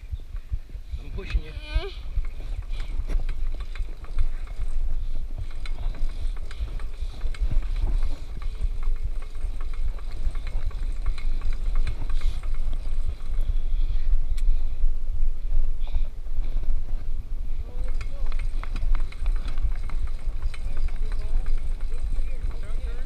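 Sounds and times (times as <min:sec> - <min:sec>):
bicycle rolling: 0:00.0 - 0:23.0
bicycle ticks and rattles: 0:00.0 - 0:23.0
wind rumble on microphone: 0:00.0 - 0:23.0.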